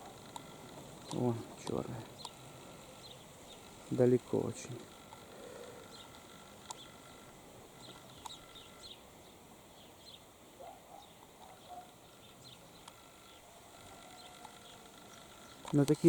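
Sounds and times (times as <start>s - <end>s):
faint background hiss: 0.0s - 16.0s
lower bird calls: 0.0s - 16.0s.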